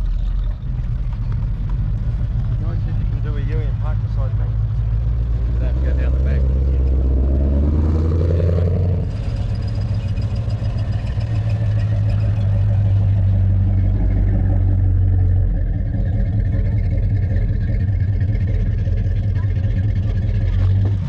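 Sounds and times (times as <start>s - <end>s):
car engine running low speed: 0.0s - 21.0s.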